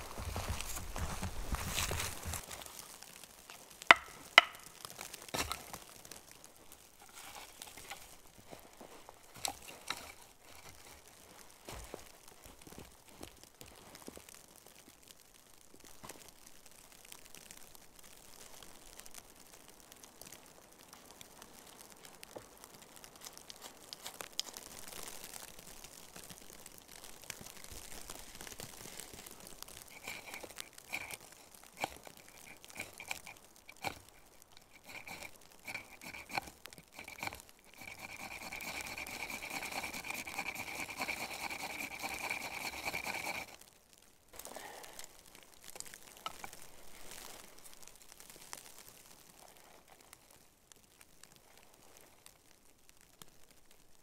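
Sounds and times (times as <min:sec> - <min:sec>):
rustling and crinkling: 0:00.0 - 0:54.0.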